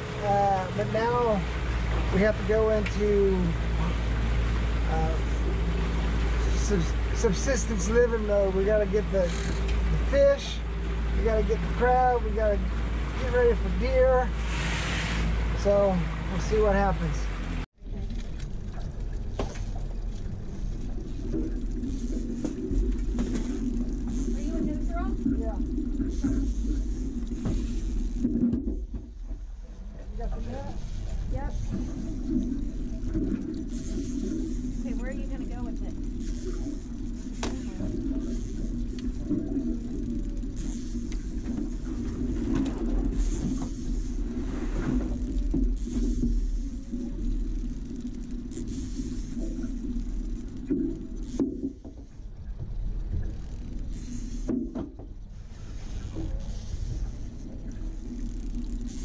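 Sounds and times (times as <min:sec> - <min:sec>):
outboard motor running: 0:00.0 - 0:59.0
water washing at stern: 0:00.0 - 0:59.0.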